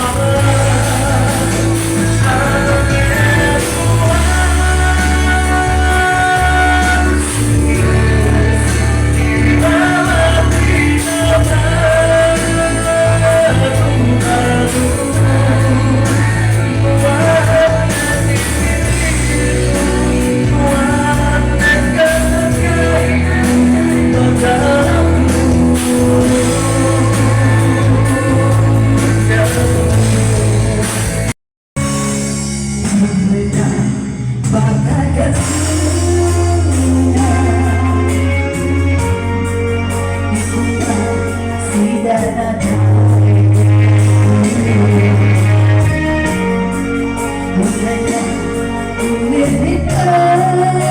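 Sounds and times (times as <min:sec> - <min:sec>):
band music with singer: 0:00.0 - 0:50.9.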